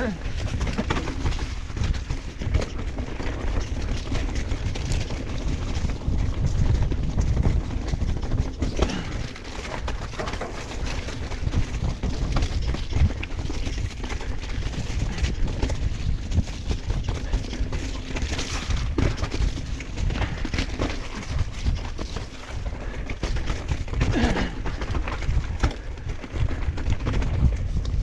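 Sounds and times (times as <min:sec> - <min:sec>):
tyres rumbling on dirt: 0:00.0 - 0:27.7
bike knocks and rattles: 0:00.0 - 0:28.0
wind on microphone: 0:00.0 - 0:28.0.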